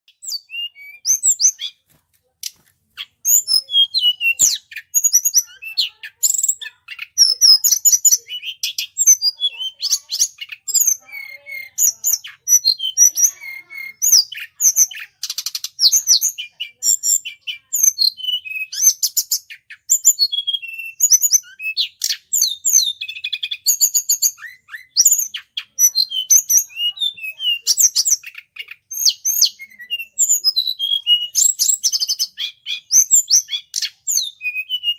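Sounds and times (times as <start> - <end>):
small bird chirping and twittering: 0.0 - 34.9.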